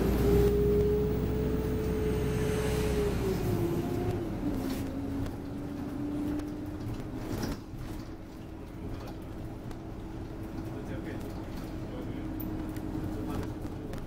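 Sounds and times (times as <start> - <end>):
bus running rumble: 0.0 - 14.0
bus whine: 0.0 - 14.0.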